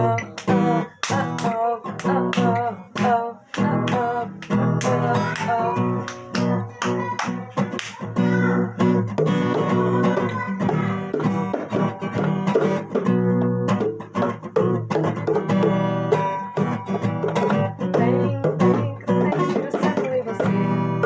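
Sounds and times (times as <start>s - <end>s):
plucked guitar instrumental: 0.0s - 21.0s.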